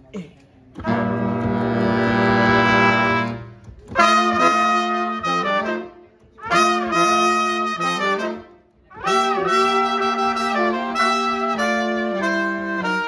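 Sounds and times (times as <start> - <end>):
horn section playing in harmony: 0.8 - 13.0.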